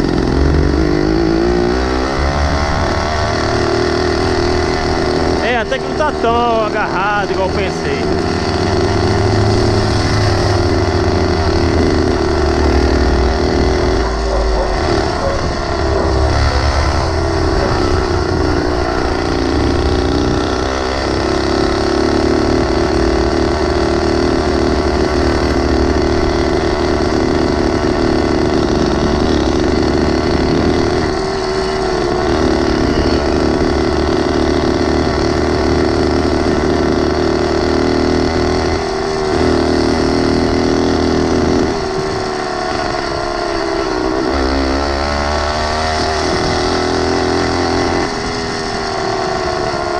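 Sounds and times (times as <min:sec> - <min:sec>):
mini bike engine running: 0:00.0 - 0:49.9.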